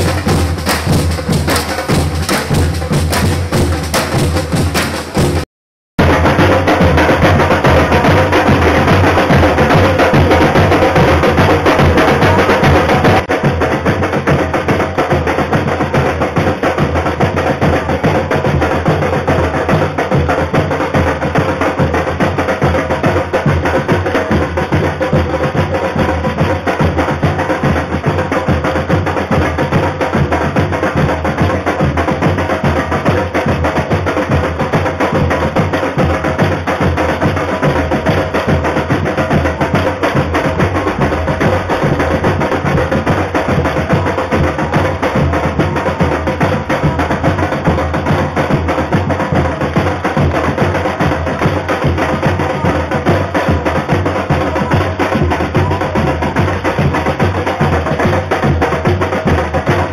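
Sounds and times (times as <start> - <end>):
bass drums: 0.0 - 59.9
samba drum band playing: 0.0 - 59.9.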